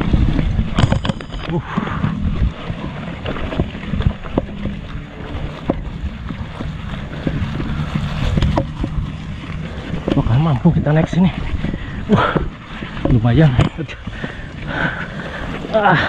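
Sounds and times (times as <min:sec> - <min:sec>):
bike knocks and rattles: 0:00.0 - 0:14.4
bike tyres rumbling over ground: 0:00.0 - 0:16.0
wind buffeting microphone: 0:00.0 - 0:16.0.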